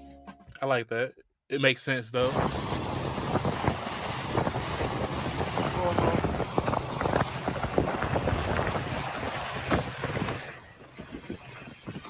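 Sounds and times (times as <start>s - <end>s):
outdoor rushing roar: 2.2s - 12.0s
wind buffeting microphone: 2.3s - 12.0s.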